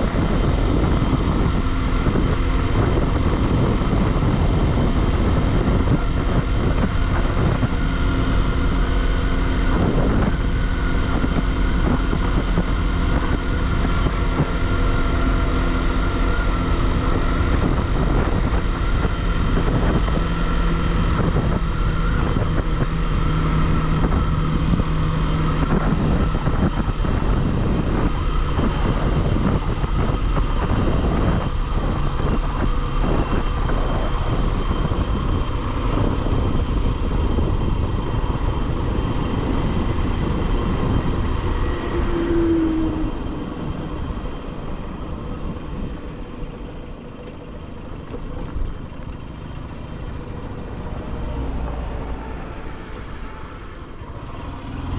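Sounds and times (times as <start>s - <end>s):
motorcycle engine under load: 0.0s - 54.9s
road noise: 0.0s - 54.9s
rushing wind: 0.0s - 54.9s.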